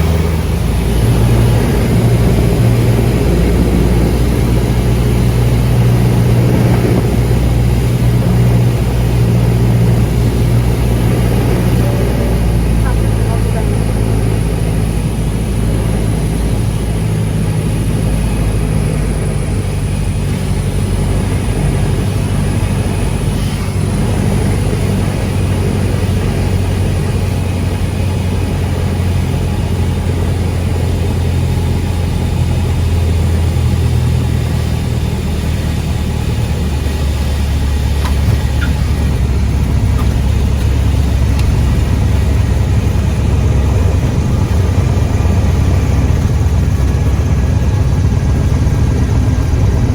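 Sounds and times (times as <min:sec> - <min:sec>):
aircraft engine and propeller droning: 0:00.0 - 0:49.9.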